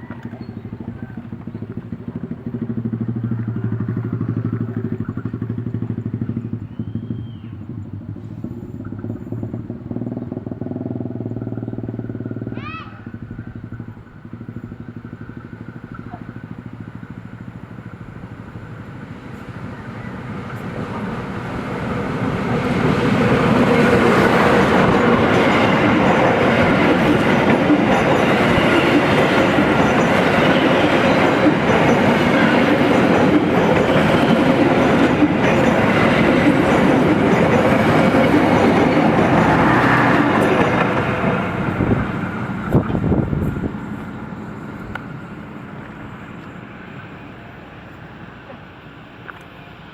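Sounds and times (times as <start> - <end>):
train passing on rails: 0.0 - 49.9.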